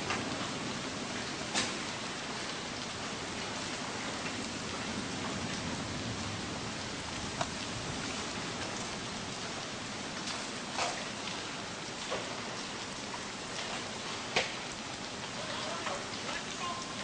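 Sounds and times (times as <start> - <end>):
rain pattering on a surface: 0.0 - 17.0.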